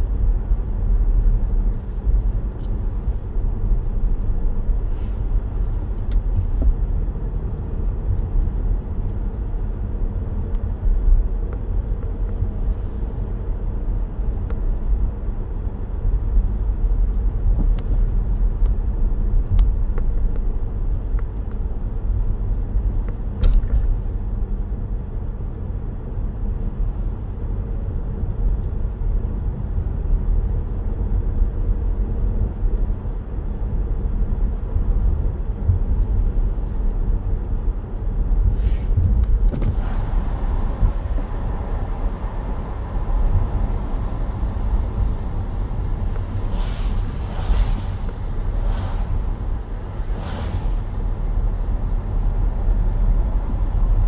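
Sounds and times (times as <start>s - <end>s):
tyres and engine rumbling: 0.0s - 54.0s.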